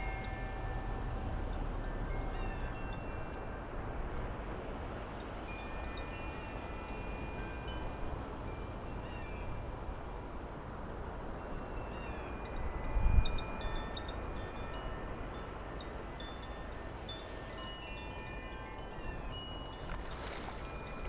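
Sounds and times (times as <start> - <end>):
metal wind chimes ringing: 0.0 - 3.8, 5.2 - 10.3, 11.3 - 21.0
wind rumbling on microphone: 0.0 - 21.0.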